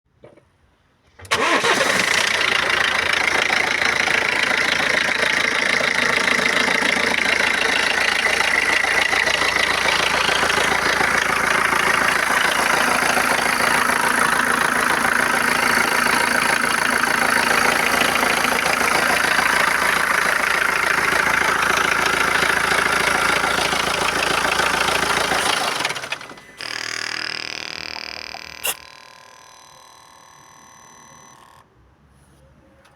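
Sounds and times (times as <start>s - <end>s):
diesel engine starting and idling: 1.1s - 31.8s.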